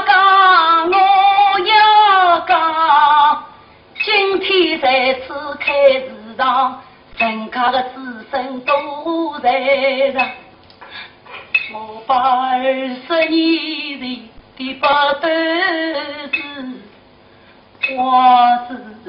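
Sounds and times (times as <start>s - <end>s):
woman singing opera: 0.0s - 10.4s, 11.7s - 16.9s, 17.8s - 19.0s.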